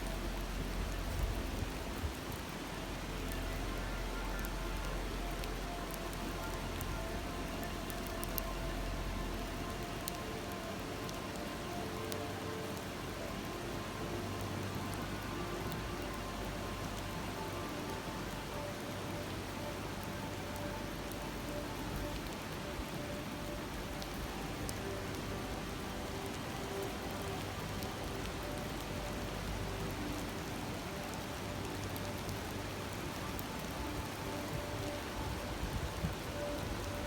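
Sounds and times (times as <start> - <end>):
campfire crackles: 0.0 - 37.0
stream babbling over stones: 0.0 - 37.0.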